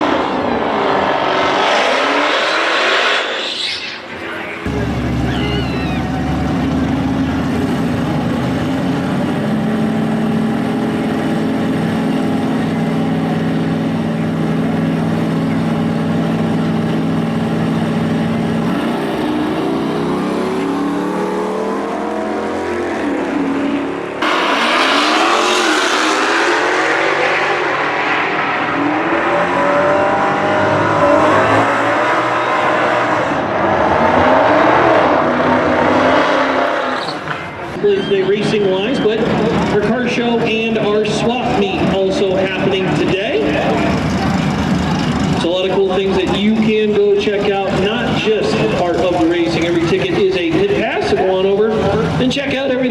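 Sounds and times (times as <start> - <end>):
drag racing car engines revving: 0.0 - 52.9.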